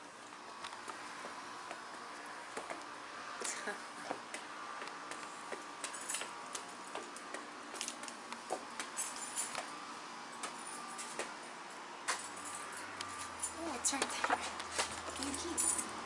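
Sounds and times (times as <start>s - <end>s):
footsteps on outdoor stairs: 0.0s - 9.7s, 10.4s - 15.7s.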